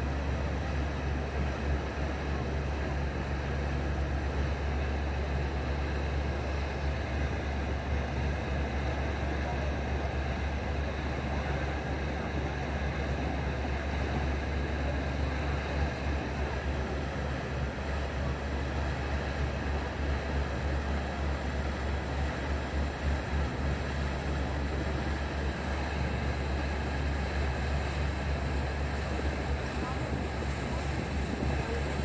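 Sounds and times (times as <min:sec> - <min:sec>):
boat engines droning: 0:00.0 - 0:32.0
rush of wind and water: 0:00.0 - 0:32.0.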